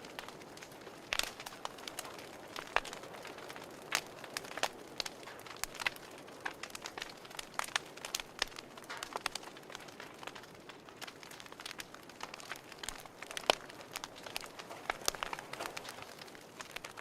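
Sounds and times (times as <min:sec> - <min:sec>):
fireplace fire crackling: 0:00.0 - 0:17.0
soft hiss of fire: 0:00.0 - 0:17.0.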